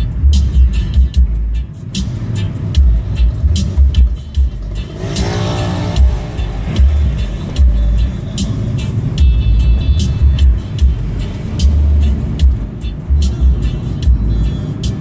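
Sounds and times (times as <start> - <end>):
hi-hat ticks: 0.0 - 15.0
pulsing bass beat: 0.0 - 15.0.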